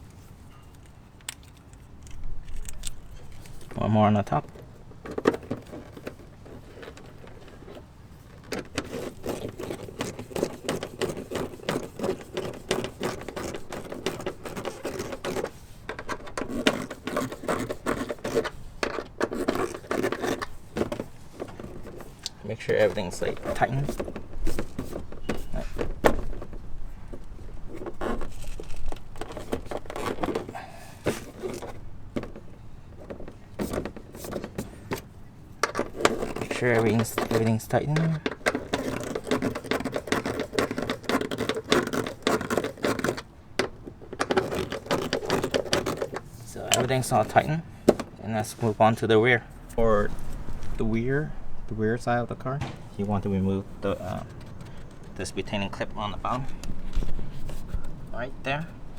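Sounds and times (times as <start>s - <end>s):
hand tools clicking and scraping: 0.0s - 51.8s, 52.6s - 58.9s.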